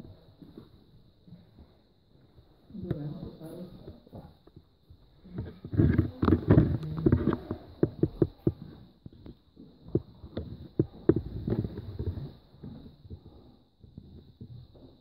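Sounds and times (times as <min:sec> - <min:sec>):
footsteps on wooden floor: 0:00.0 - 0:15.0.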